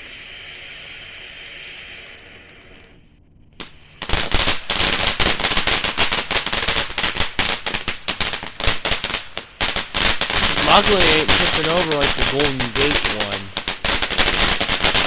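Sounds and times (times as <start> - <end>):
firework crackling: 0.0 - 15.0
firework fountain hissing: 0.0 - 15.0.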